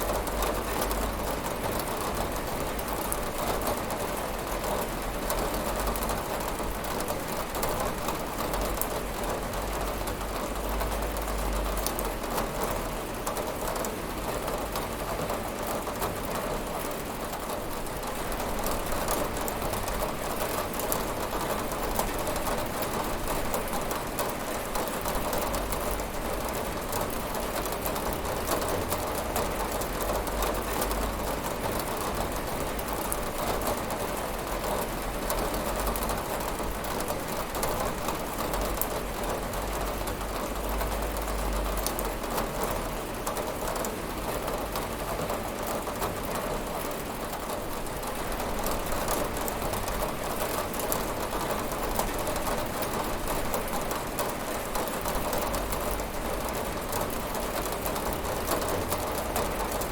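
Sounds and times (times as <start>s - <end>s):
rain pattering on window: 0.0s - 59.9s.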